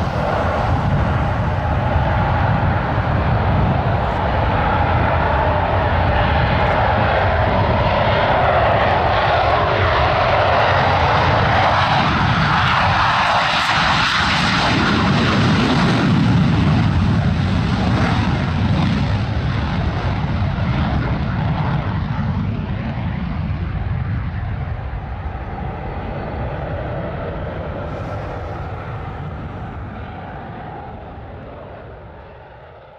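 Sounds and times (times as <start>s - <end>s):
aircraft engine noise: 0.0s - 32.9s.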